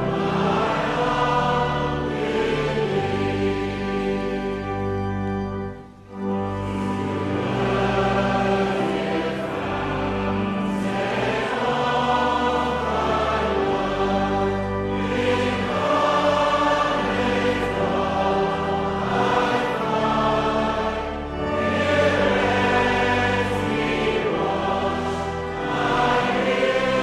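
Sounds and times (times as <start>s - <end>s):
choir singing a hymn: 0.0s - 27.0s.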